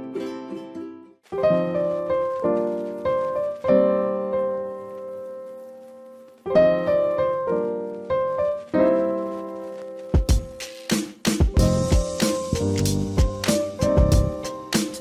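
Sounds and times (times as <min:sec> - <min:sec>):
piano chords ringing: 0:01.4 - 0:10.6, 0:11.5 - 0:15.0.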